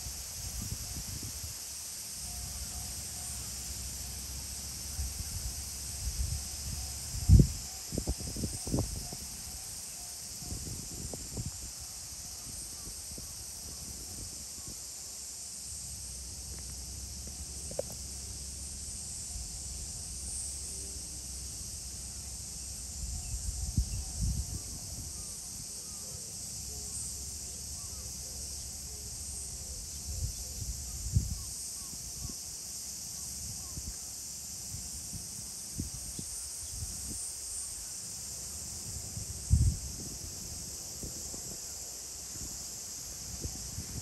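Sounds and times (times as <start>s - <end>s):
insect chorus drone: 0.0s - 44.0s.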